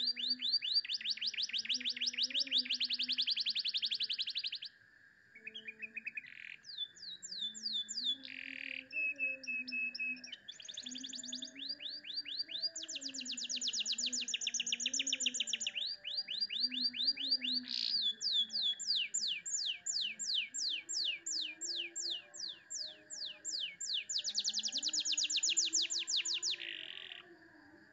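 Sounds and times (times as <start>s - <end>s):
canary singing trills: 0.0s - 4.7s, 5.4s - 27.3s
faint steady high tone: 5.3s - 27.9s.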